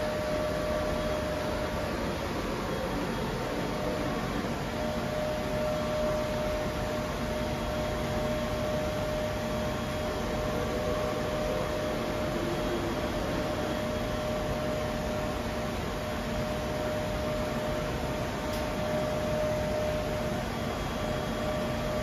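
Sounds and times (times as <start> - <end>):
high machine whine: 0.0 - 22.0
machine whirring and hissing: 0.0 - 22.0.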